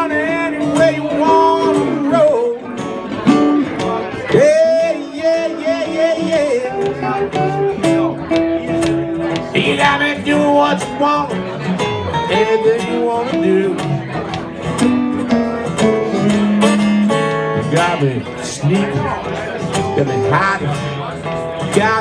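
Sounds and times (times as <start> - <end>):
acoustic guitar band playing: 0.0 - 22.0
lead guitar bending notes: 0.0 - 22.0.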